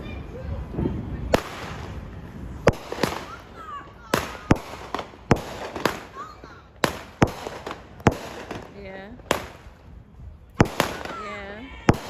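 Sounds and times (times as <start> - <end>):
fireworks bangs: 0.5 - 12.0.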